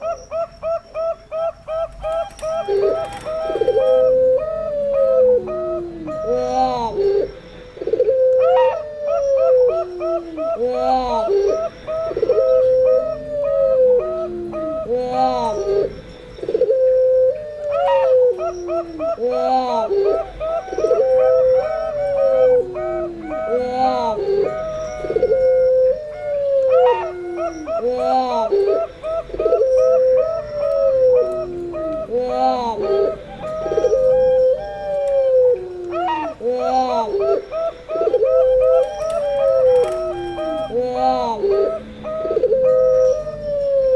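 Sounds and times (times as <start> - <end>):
doves cooing: 0.0 - 43.9.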